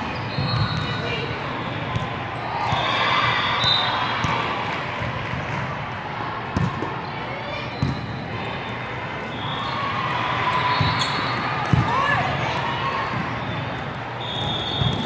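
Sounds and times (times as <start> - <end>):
echoing din of voices: 0.0 - 14.8.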